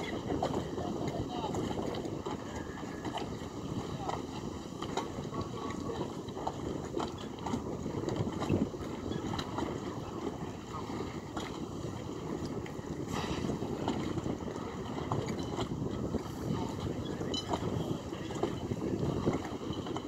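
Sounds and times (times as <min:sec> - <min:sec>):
faint voices: 0:00.0 - 0:20.0
wind rumble on microphone: 0:00.0 - 0:20.0.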